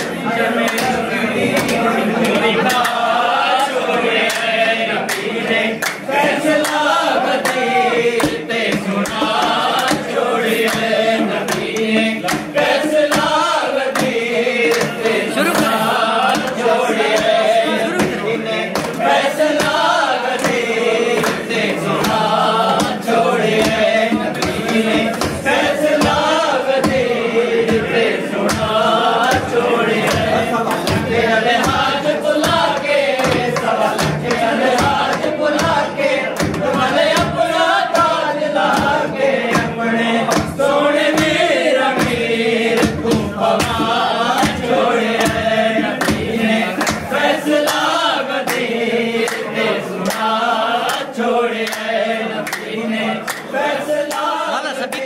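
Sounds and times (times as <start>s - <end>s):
men singing together: 0.0s - 55.0s
sharp percussive beats: 0.0s - 55.0s.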